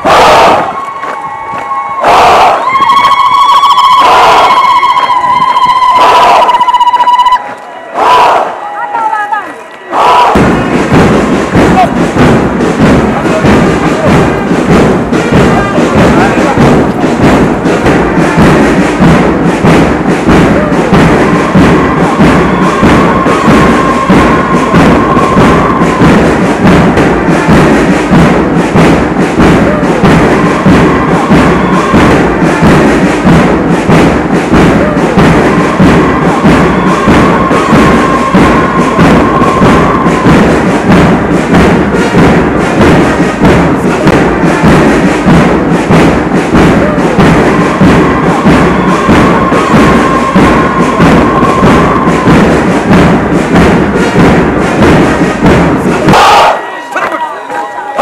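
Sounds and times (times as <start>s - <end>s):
music with heavy beat: 10.0s - 58.0s.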